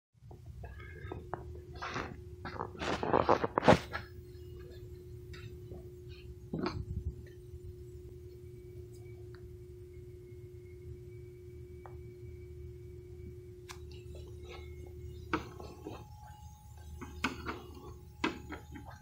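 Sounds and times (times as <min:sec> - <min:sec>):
steady low hum: 0:00.2 - 0:19.0.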